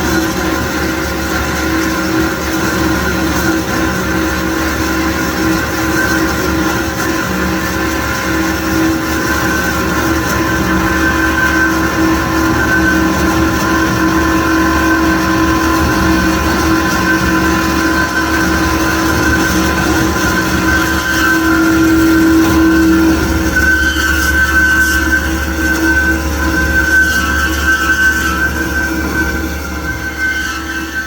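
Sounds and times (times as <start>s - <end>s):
bandsaw humming and whining: 0.0s - 31.0s.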